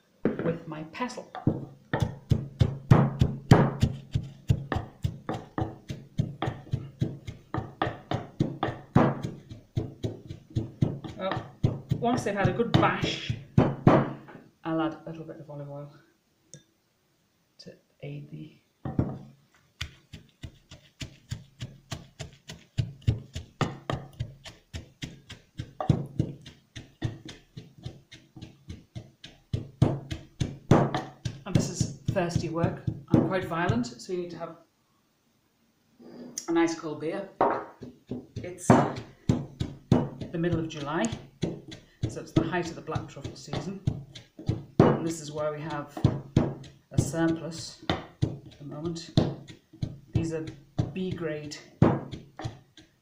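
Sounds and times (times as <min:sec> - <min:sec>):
wooden pestle pounding in mortar: 0:01.3 - 0:14.2, 0:18.8 - 0:34.0, 0:37.4 - 0:53.0.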